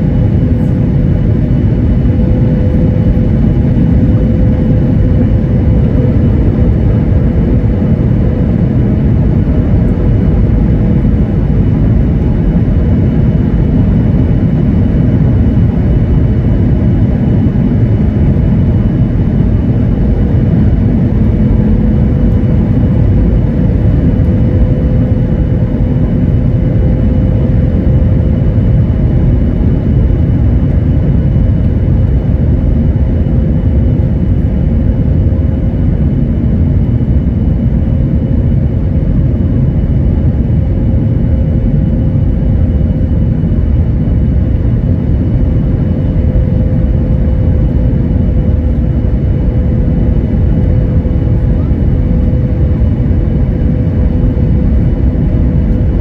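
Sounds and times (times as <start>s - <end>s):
jet engines and rushing airflow: 0.0s - 56.0s.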